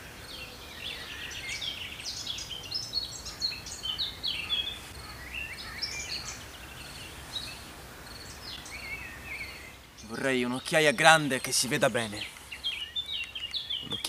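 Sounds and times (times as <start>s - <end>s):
birds chirping and trilling: 0.0s - 14.0s
faint outdoor background noise: 0.0s - 14.0s.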